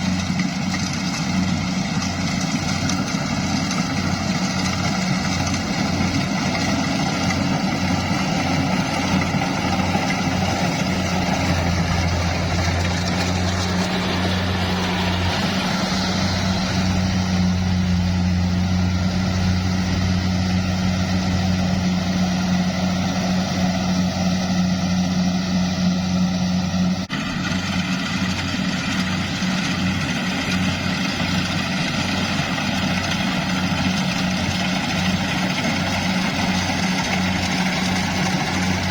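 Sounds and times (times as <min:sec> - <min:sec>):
farm machinery engine humming: 0:00.0 - 0:38.9.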